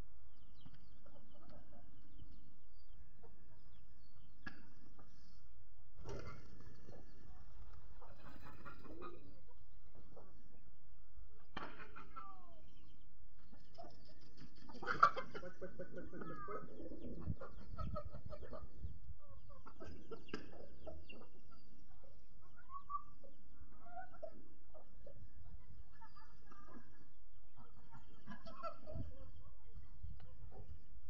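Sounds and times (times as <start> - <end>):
chickens clucking: 0.3 - 5.4, 6.0 - 30.9.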